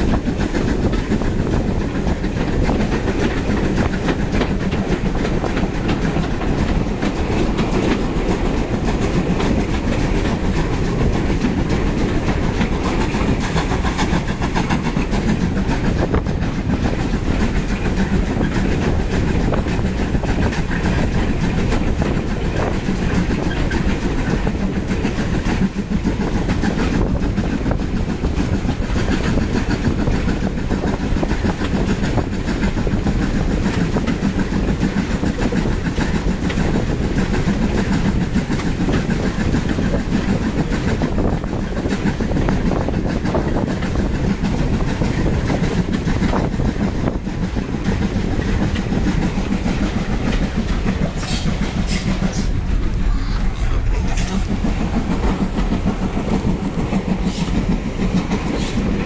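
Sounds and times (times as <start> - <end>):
train rumble: 0.0 - 59.0
wheels clacking over rail joints: 0.0 - 59.0.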